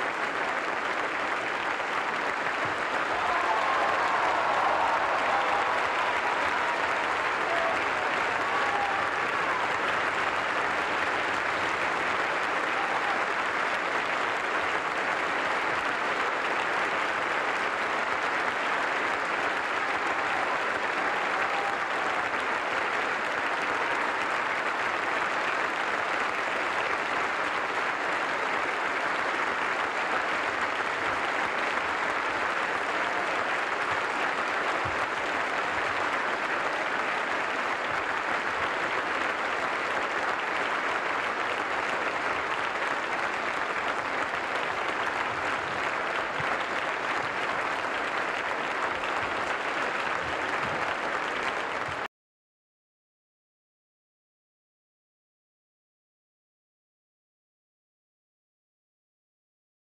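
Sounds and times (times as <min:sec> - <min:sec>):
audience applauding: 0:00.0 - 0:52.1.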